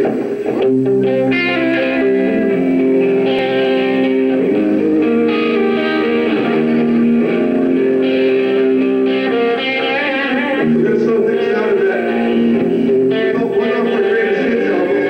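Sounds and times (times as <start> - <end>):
electric guitar chords: 0.0 - 15.0
rock band playing live: 0.0 - 15.0.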